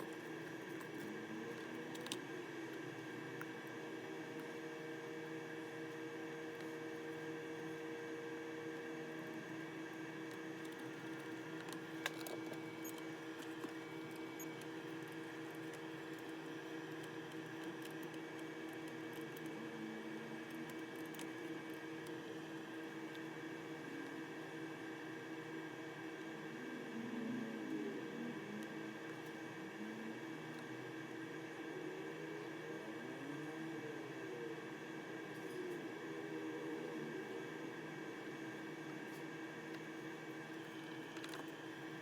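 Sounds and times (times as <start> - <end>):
electrical hum with hiss: 0.0 - 42.0.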